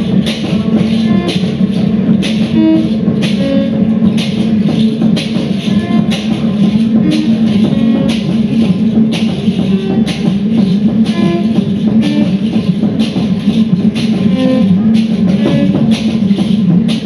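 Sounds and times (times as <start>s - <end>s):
live band music: 0.0s - 17.0s
sharp percussive hits: 0.0s - 17.0s.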